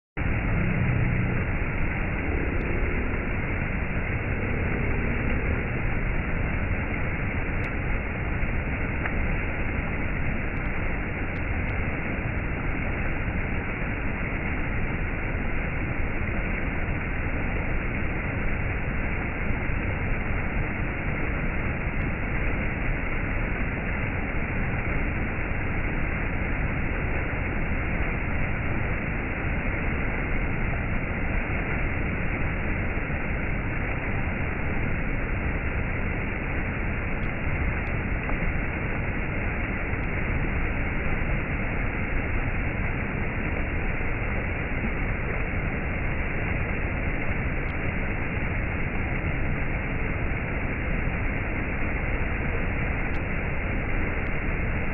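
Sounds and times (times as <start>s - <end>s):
stream rushing over rocks: 0.2s - 54.9s.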